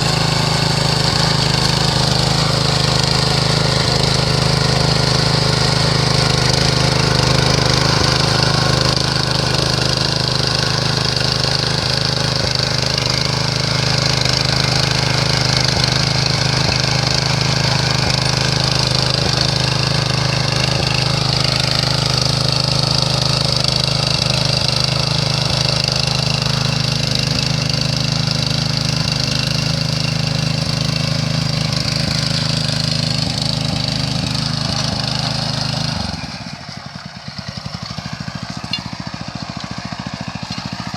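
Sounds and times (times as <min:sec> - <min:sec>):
small tiller engine running: 0:00.0 - 0:40.9.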